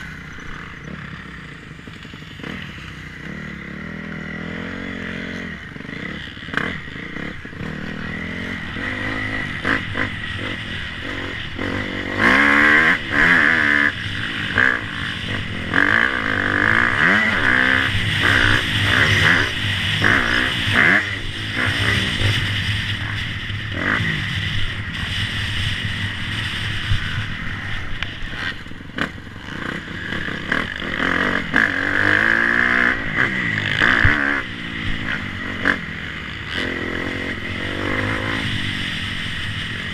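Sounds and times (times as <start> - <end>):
motocross engines revving: 0.0 - 39.9.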